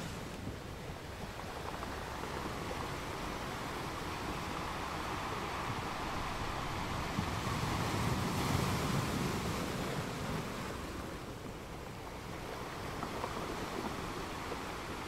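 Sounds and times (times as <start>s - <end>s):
ocean surf on beach: 0.0s - 15.0s.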